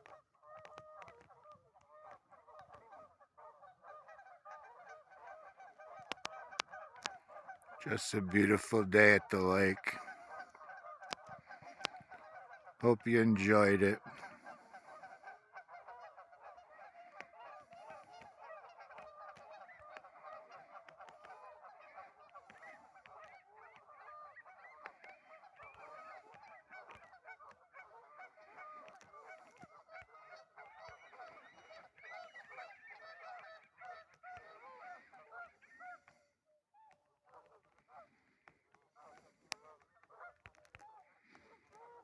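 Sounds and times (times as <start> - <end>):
ducks and swans calling: 0.0 - 42.0.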